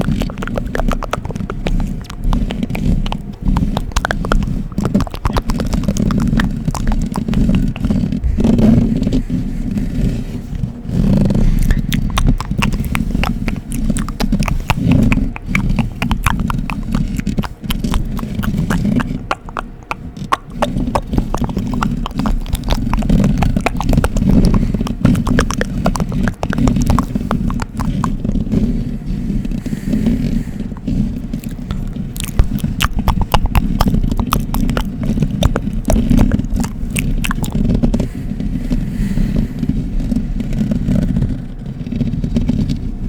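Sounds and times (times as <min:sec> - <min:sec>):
wet mouth clicks: 0:00.0 - 0:38.2.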